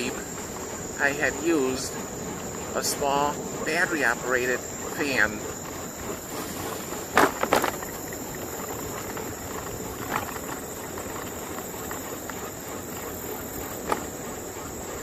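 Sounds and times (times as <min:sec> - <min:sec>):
insects chirring: 0:00.0 - 0:15.0
riding along trail noise: 0:00.0 - 0:15.0.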